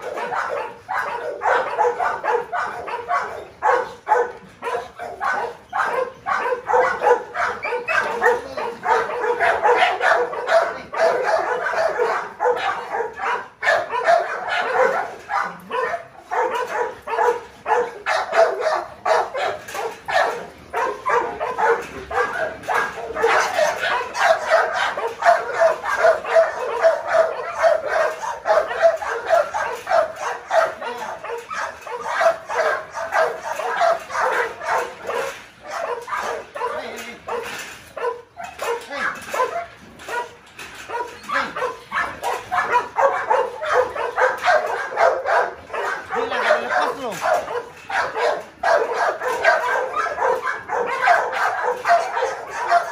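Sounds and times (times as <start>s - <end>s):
dogs barking rapidly: 0.0s - 52.9s.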